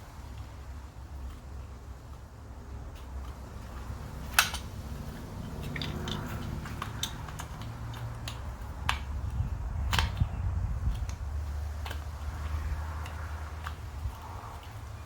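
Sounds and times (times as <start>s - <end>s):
plastic parts clicking: 0.0s - 15.0s.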